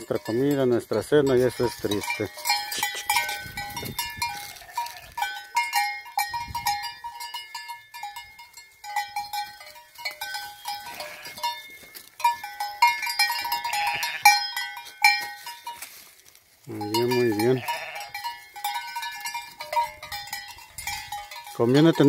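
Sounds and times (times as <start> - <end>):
sheep bells clanking: 0.0 - 22.0.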